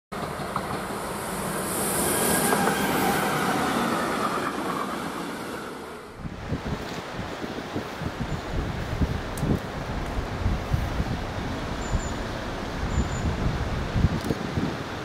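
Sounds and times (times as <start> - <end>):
train wheels rolling on rails: 0.1 - 15.0.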